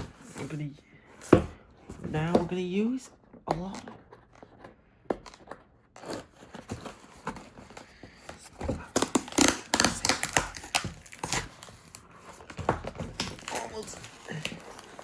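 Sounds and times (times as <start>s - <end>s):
box being opened by hand: 0.0s - 15.0s.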